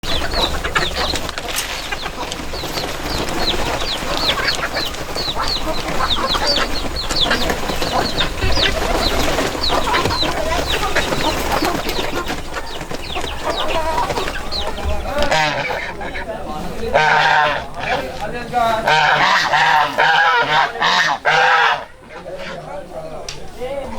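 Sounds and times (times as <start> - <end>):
chicks peeping: 0.0 - 23.9
hens clucking: 0.0 - 23.9.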